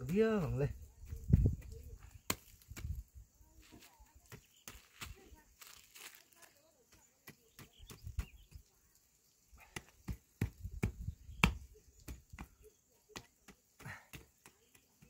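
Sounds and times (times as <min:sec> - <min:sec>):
hand hoe chopping stony soil: 0:00.0 - 0:08.7, 0:09.6 - 0:15.0.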